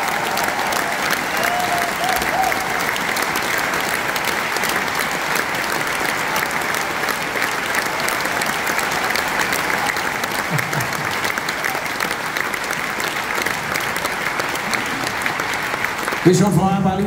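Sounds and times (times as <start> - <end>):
large audience applauding: 0.0 - 17.0.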